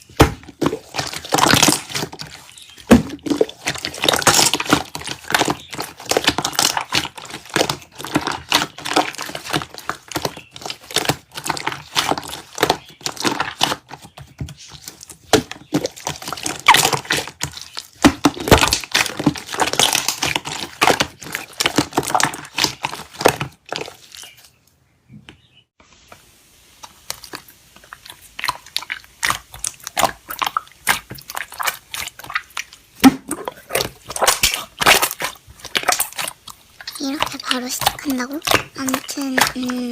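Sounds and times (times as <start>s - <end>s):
slime squelching and clicking: 0.1s - 24.7s, 26.8s - 39.9s.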